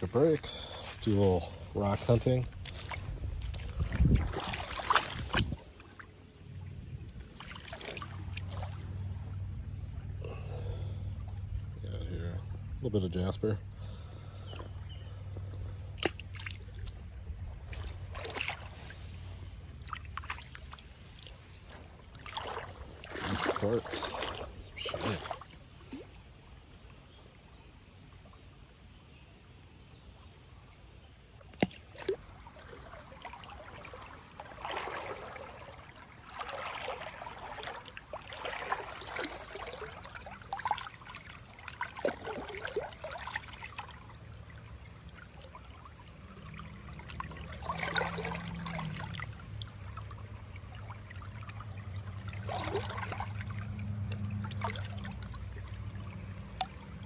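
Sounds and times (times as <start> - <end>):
splashing swishes in water: 0.0 - 11.7, 14.4 - 26.7, 31.3 - 57.0
low steady hum: 0.0 - 57.0
river water trickling: 0.0 - 57.0.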